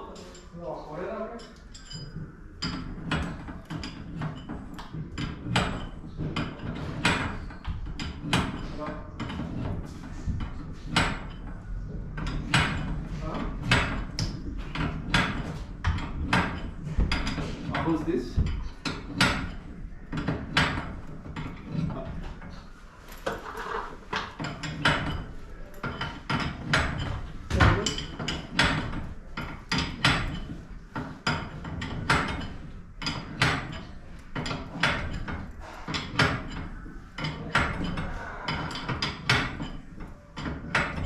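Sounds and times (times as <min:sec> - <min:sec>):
hand tools knocking on metal: 0:01.4 - 0:22.6, 0:23.2 - 0:41.0.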